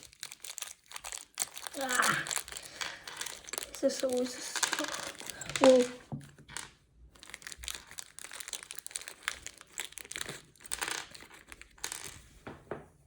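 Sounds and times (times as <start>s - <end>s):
packet crinkling and rustling: 0.0s - 12.4s.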